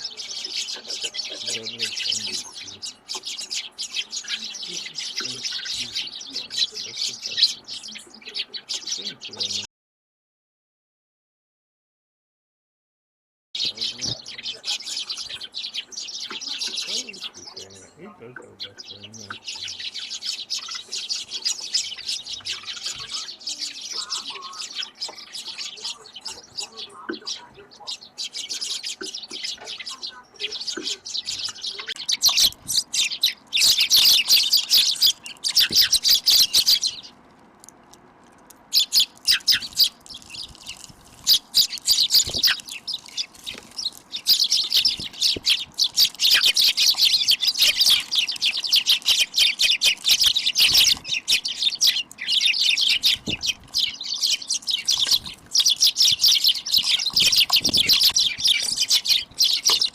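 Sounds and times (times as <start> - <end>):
small birds chirping: 0.0 - 9.7, 13.6 - 59.9.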